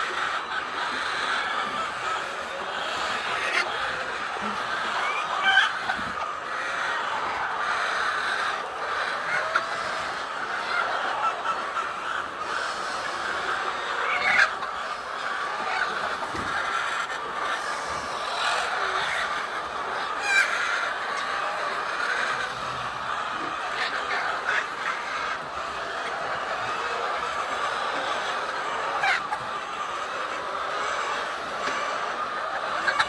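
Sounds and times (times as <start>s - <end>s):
hens clucking: 0.0s - 33.0s.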